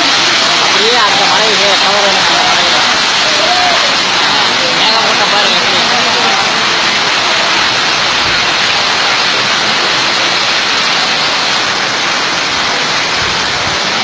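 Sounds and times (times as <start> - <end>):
heavy rain: 0.0 - 14.0
water cascading down steps: 0.0 - 14.0.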